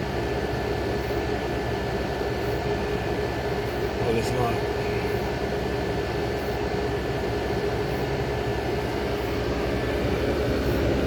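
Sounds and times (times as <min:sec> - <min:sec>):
window air conditioner running: 0:00.0 - 0:11.0.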